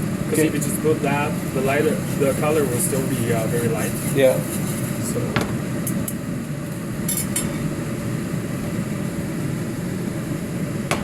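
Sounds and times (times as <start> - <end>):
kitchen background rumble: 0.0 - 11.0.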